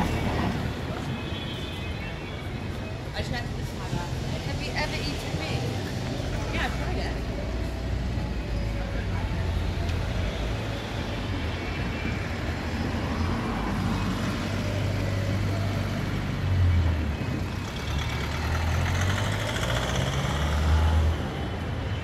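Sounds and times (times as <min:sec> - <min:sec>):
vehicle engines humming: 0:00.0 - 0:22.0.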